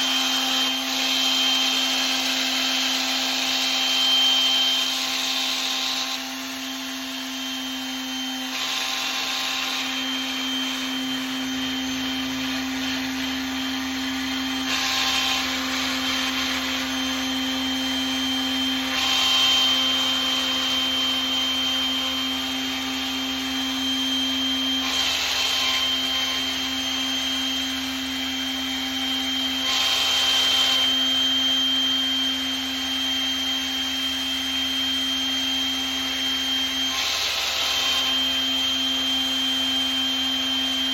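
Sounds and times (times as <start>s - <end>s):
electric sander whining: 0.0s - 40.9s.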